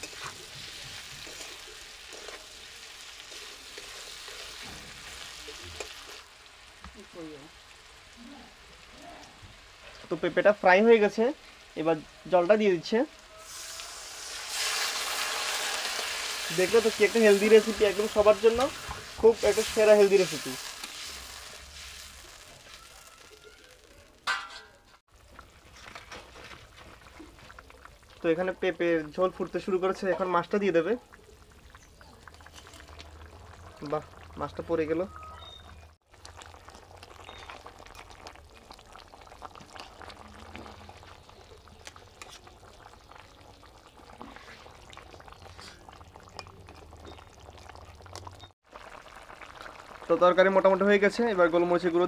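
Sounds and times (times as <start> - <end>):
curry bubbling in a pan: 0.0 - 12.6, 13.2 - 24.1, 25.0 - 52.0
pot simmering with low hiss: 0.0 - 52.0.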